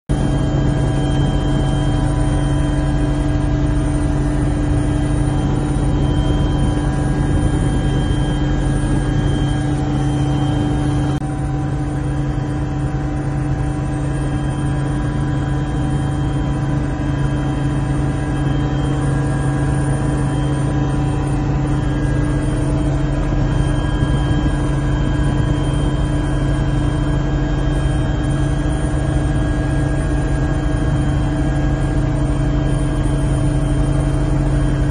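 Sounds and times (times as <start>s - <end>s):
helicopter cabin drone: 0.1s - 34.9s.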